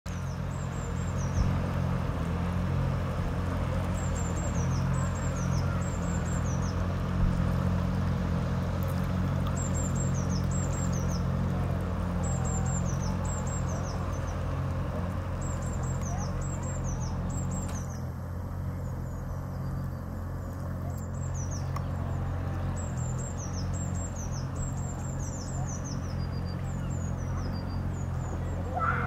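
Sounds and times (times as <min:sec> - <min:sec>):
outboard motor humming: 0:00.0 - 0:29.0
songbird singing: 0:00.1 - 0:29.0.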